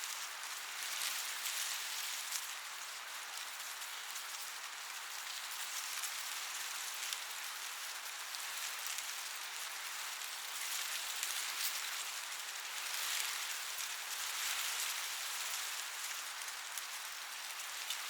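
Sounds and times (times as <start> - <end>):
wind rustling corn leaves: 0.0 - 18.0.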